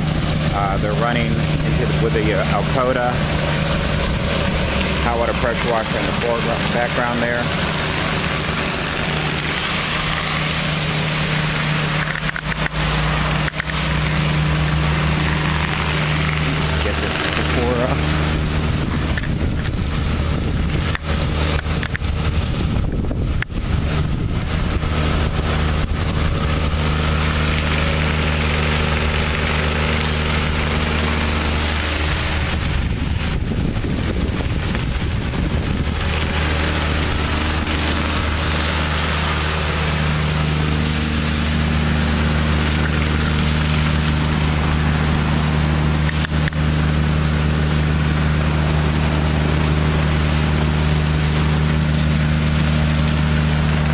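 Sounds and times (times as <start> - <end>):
diesel engine humming: 0.0 - 53.9
high-pressure water spraying: 0.0 - 53.9.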